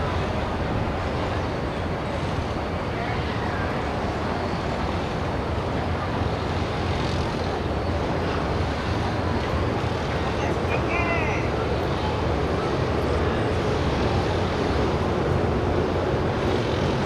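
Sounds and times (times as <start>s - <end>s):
gas turbines low rumble: 0.0s - 17.0s.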